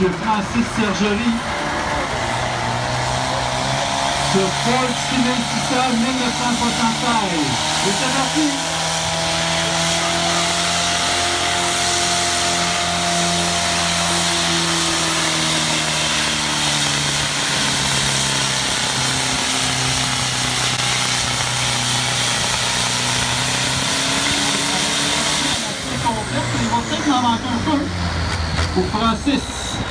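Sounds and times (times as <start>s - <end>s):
diesel tractor engine at full throttle: 0.0s - 29.9s.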